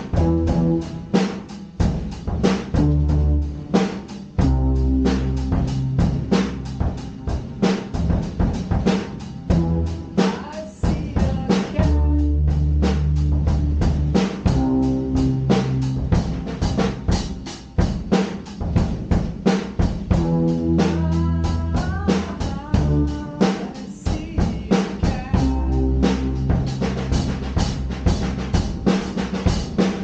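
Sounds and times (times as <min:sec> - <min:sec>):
drum kit groove: 0:00.0 - 0:30.0
keyboard chords: 0:00.0 - 0:30.0.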